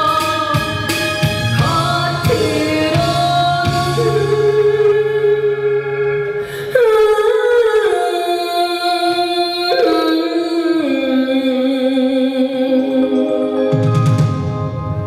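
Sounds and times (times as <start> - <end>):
person singing long held notes: 0.0 - 13.8
musical backing: 0.0 - 15.0.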